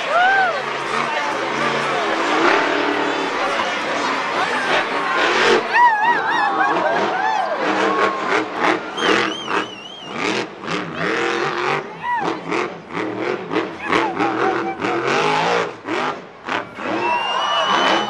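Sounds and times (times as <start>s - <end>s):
arena crowd noise: 0.0s - 18.0s
truck engine revving: 0.0s - 18.0s.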